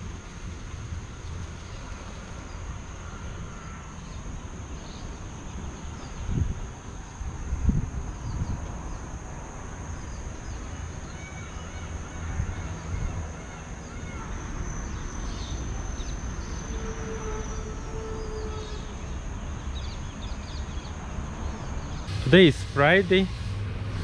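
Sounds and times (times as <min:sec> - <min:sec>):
high-pitched insect drone: 0:00.0 - 0:20.8, 0:22.1 - 0:24.0.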